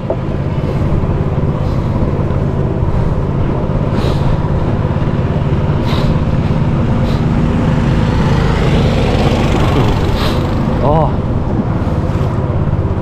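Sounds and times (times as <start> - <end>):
motor boat engine drone: 0.0 - 13.0.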